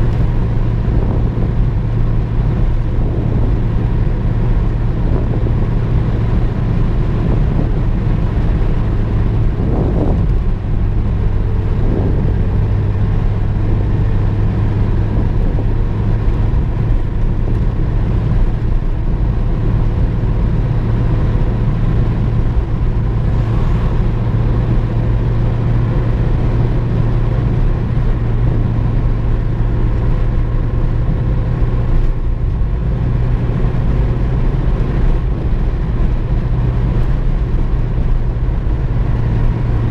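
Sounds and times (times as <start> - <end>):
low engine drone: 0.0 - 39.9
tyre and road noise: 0.0 - 39.9.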